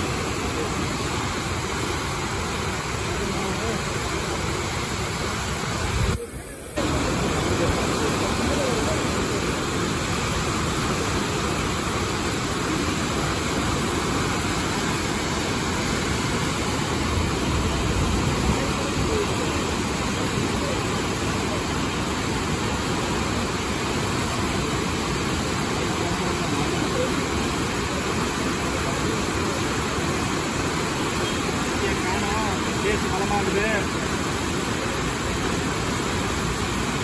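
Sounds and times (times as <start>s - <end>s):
whitewater rapids churning over rocks: 0.0s - 37.0s.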